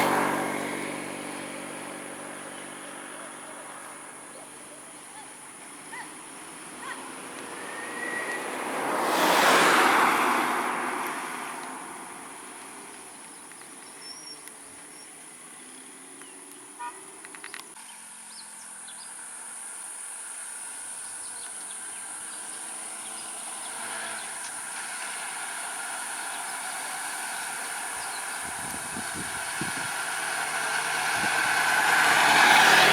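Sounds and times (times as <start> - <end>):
vehicle engine running low: 0.0 - 32.9.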